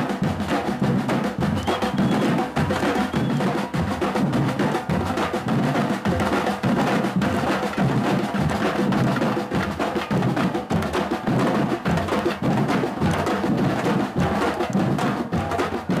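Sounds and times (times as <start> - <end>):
drum group playing percussion: 0.0 - 16.0.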